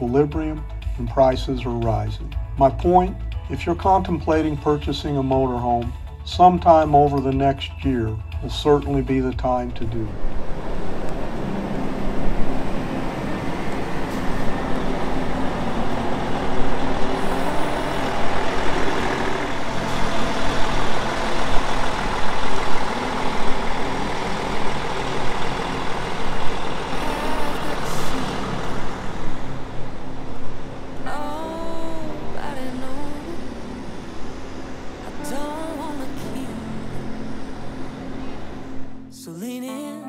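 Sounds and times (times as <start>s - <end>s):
diesel engine drone: 0.0s - 39.1s
road noise: 0.0s - 39.1s.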